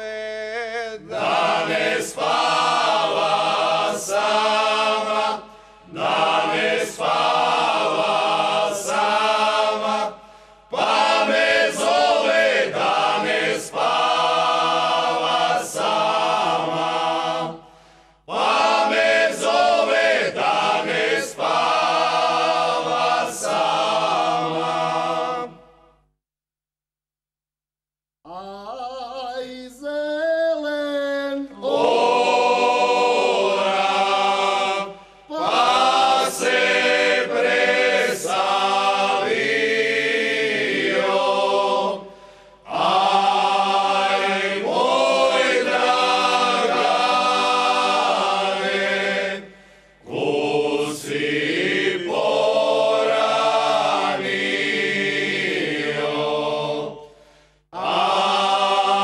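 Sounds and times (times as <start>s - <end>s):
male choir singing unaccompanied: 0.0s - 17.7s, 18.3s - 25.6s, 31.4s - 57.0s, 57.8s - 59.0s.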